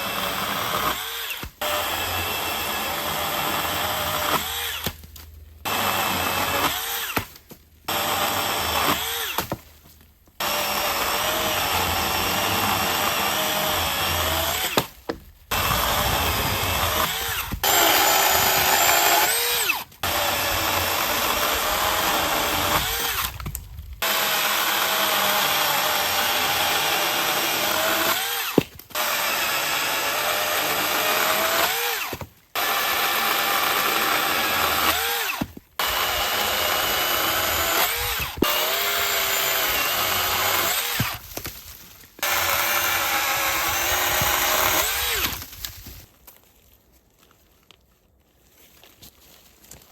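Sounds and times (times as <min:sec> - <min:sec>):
battery chainsaw cutting wood: 0:00.0 - 0:05.0, 0:05.6 - 0:07.3, 0:07.9 - 0:09.6, 0:10.4 - 0:41.4, 0:42.2 - 0:45.7.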